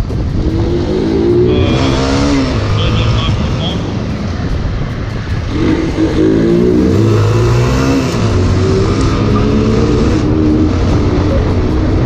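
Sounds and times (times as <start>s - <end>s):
motorcycle engine revving: 0.0s - 12.0s
wind and road noise: 0.0s - 12.0s.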